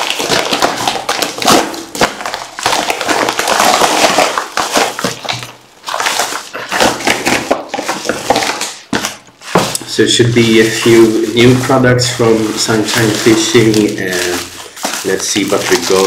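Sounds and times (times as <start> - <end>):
plastic packaging rustling and crinkling: 0.0 - 16.0.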